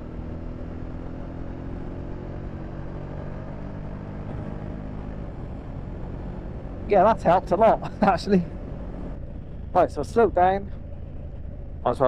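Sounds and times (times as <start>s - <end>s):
motorcycle engine running: 0.0s - 12.0s
road noise while riding: 0.0s - 12.0s
wind: 0.0s - 12.0s.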